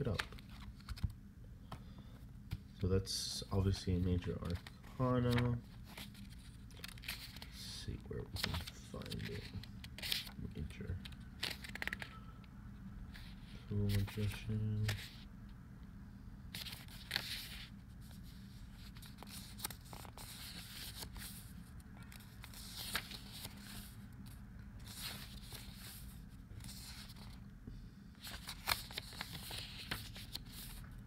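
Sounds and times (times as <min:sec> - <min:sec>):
book pages turning: 0:00.0 - 0:01.1, 0:03.6 - 0:12.2, 0:13.1 - 0:15.2, 0:16.5 - 0:27.4, 0:28.2 - 0:30.9.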